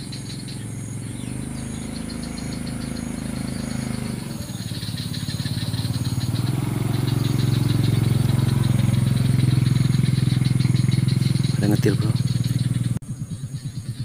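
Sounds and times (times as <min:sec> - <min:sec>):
small engine humming: 0:00.0 - 0:14.0.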